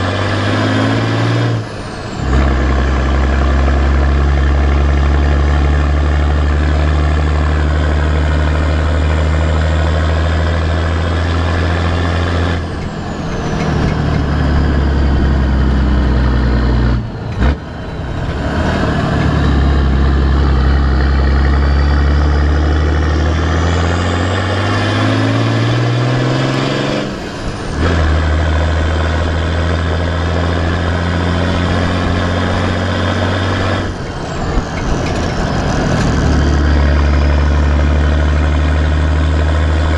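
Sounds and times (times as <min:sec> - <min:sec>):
diesel exhaust droning: 0:00.0 - 0:39.9.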